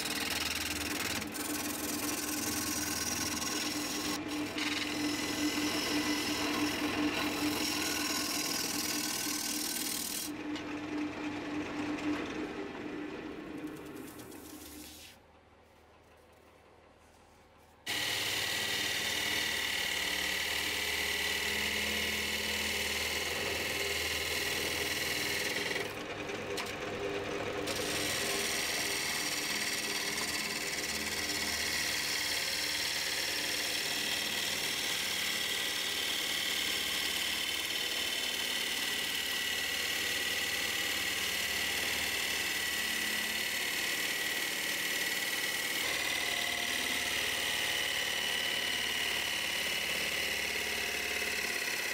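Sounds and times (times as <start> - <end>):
gouge cutting spinning wood: 0.0 - 15.1, 17.9 - 51.9
wood lathe running: 0.0 - 15.1, 17.9 - 51.9.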